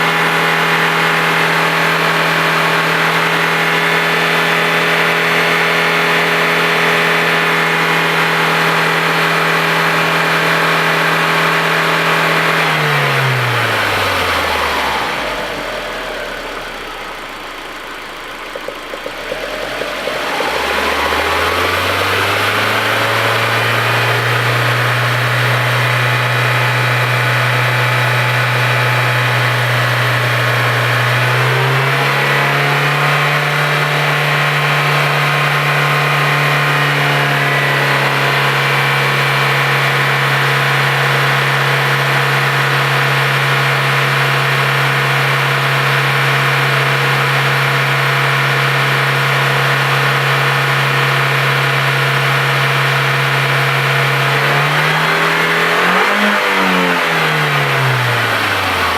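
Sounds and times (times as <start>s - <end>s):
car engine running: 0.0s - 58.9s.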